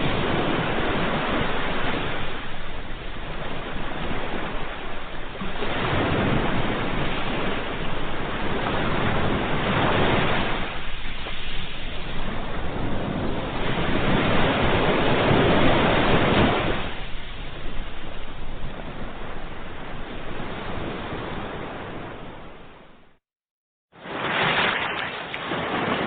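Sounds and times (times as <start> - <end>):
ocean wave washing out: 0.0 - 23.0, 24.0 - 26.0.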